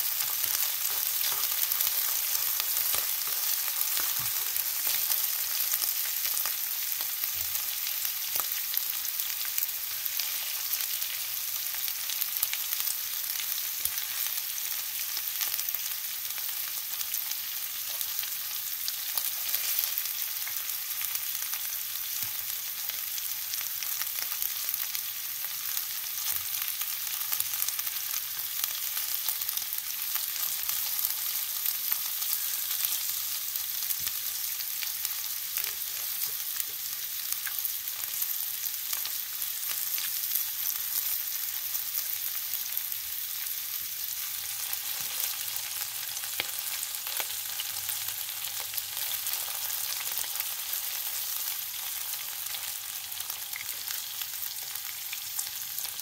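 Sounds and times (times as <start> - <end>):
meatballs sizzling in frying pan: 0.0 - 56.0.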